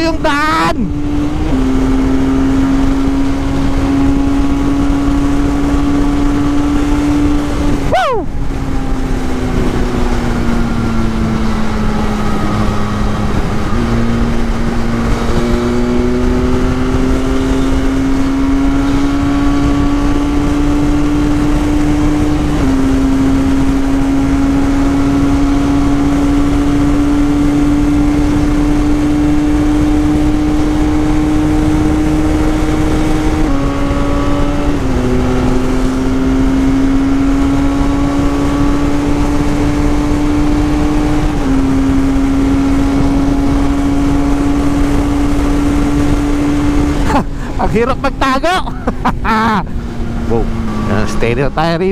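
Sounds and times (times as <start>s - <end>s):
motorcycle engine running hard: 0.0s - 51.9s.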